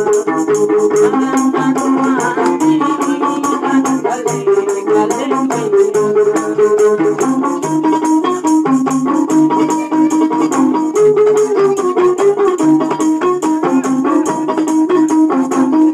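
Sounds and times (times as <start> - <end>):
lute plucked melody: 0.0 - 15.9.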